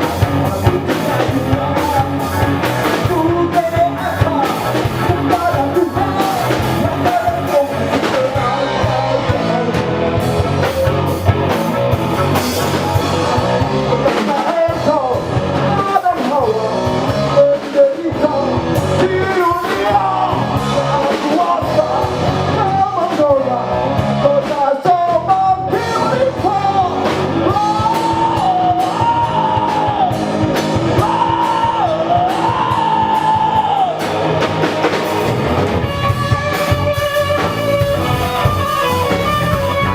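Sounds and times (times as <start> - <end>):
electric guitar: 0.0 - 39.9
lead singer singing: 0.0 - 39.9
live rock band playing: 0.0 - 39.9.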